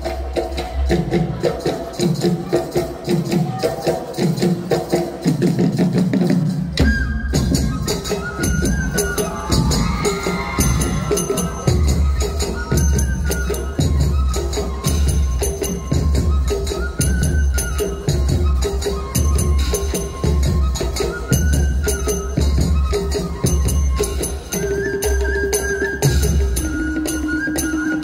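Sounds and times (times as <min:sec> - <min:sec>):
drums and jingling percussion: 0:00.0 - 0:28.0.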